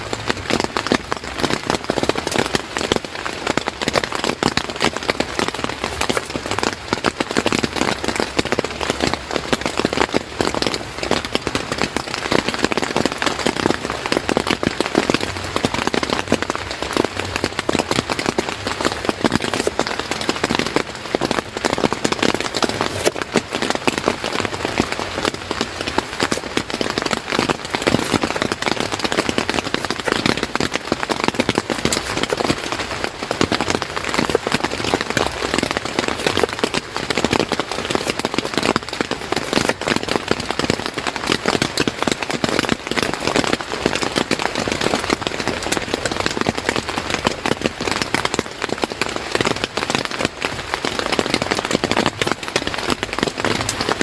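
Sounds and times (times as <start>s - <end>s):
heavy rain patter: 0.0s - 54.0s.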